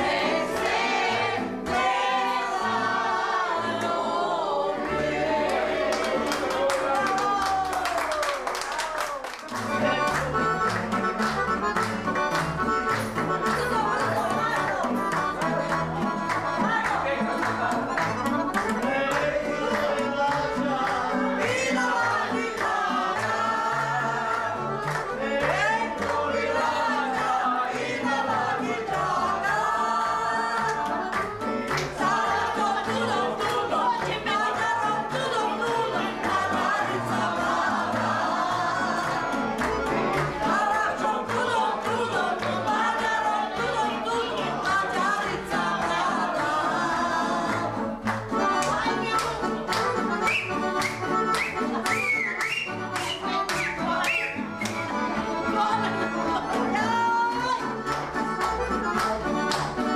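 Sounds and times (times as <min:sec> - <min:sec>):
accordion: 0:00.0 - 0:07.3, 0:09.3 - 0:59.9
group of voices singing: 0:00.0 - 0:08.1, 0:12.4 - 0:59.9
double bass: 0:09.6 - 0:59.9.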